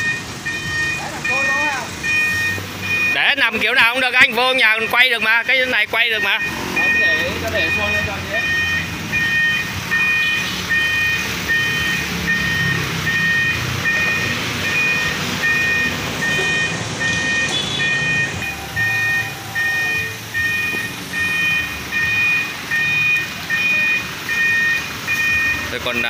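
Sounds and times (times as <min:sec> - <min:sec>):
crane warning beeper: 0:00.0 - 0:26.0
truck engine running: 0:00.0 - 0:26.0.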